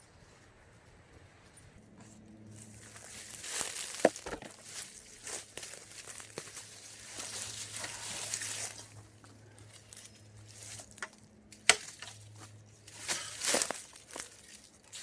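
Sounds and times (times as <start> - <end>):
rustling handling noises: 1.5 - 11.2, 11.8 - 15.0.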